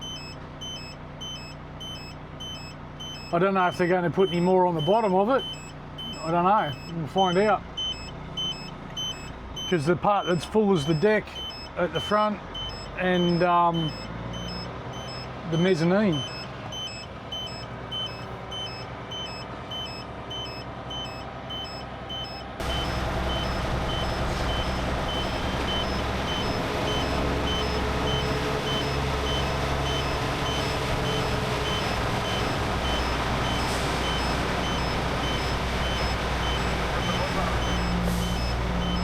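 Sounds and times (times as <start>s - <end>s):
diesel truck engine rumbling: 0.0s - 39.0s
reversing alarm beeping: 0.0s - 39.0s.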